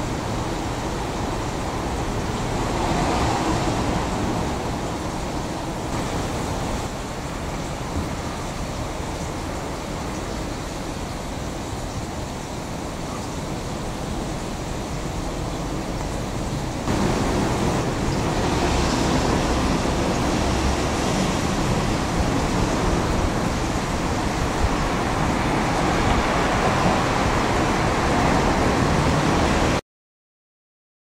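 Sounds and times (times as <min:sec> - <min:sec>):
rushing outdoor noise: 0:00.0 - 0:29.8.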